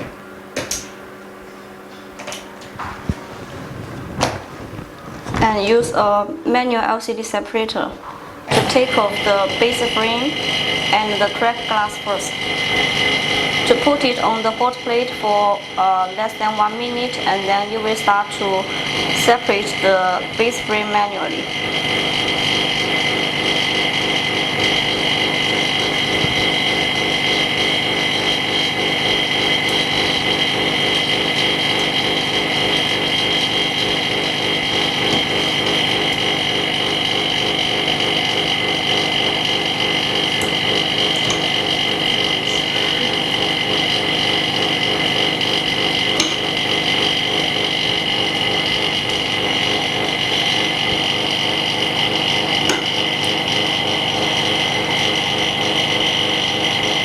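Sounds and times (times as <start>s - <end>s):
machine hum with high whine: 0.0s - 57.0s.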